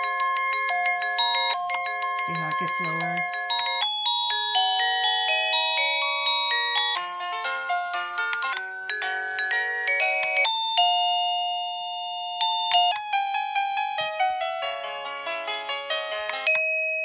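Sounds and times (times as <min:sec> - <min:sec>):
doorbell chime melodies: 0:00.0 - 0:17.0.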